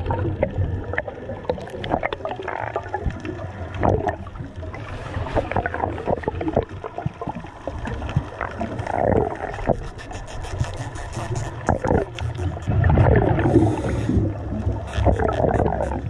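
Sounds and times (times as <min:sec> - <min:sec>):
gurgling bubbles underwater: 0:00.0 - 0:16.0
low underwater rumble: 0:00.0 - 0:16.0.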